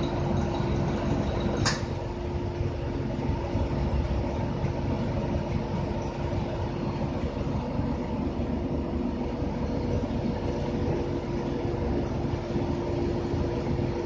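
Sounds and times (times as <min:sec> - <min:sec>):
bus engine and road drone: 0:00.0 - 0:14.0
constant whine: 0:00.0 - 0:14.0.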